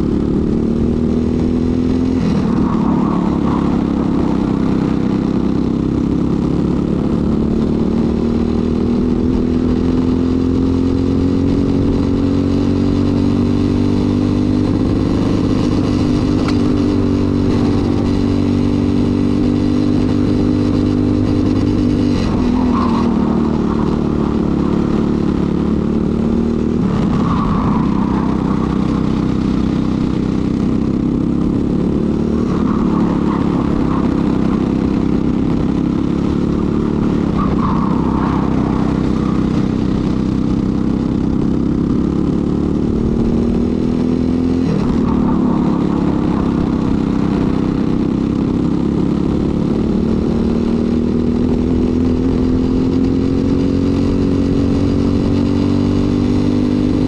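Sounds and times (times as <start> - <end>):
kart engine running hard: 0.0 - 57.0.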